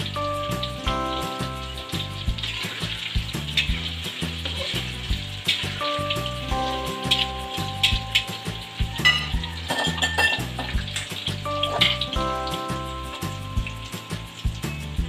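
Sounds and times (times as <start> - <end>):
background music with beat: 0.0 - 15.0
tofu sizzling in hot oil: 0.0 - 15.0.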